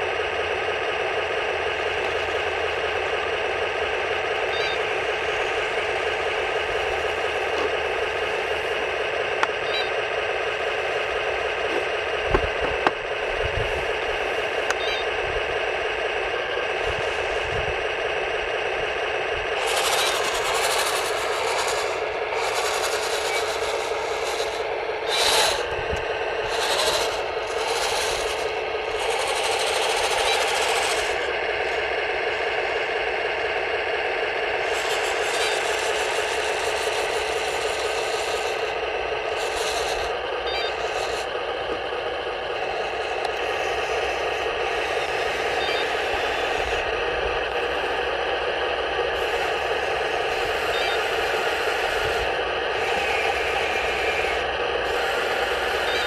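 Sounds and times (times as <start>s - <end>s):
toy tank tracks rattling: 0.0s - 56.0s.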